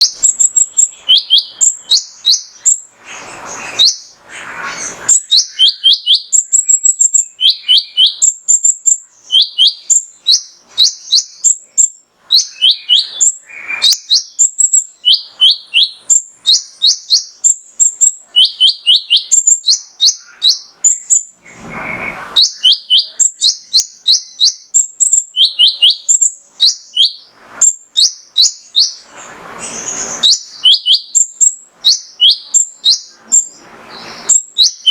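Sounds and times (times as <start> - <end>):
sunbird chirping and trilling: 0.0 - 34.9.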